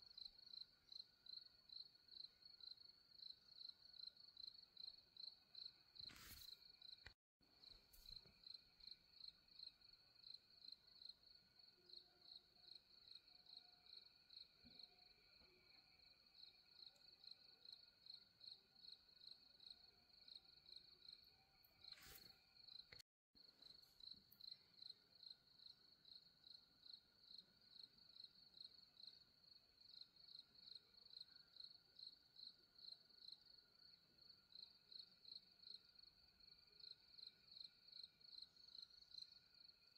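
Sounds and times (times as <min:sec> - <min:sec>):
crickets chirping faintly: 0:00.0 - 0:39.9.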